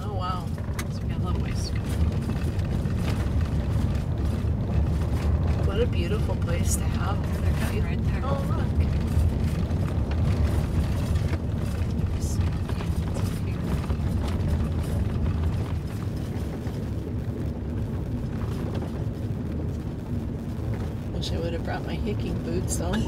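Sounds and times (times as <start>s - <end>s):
tyre and road rumble on gravel: 0.0s - 23.0s.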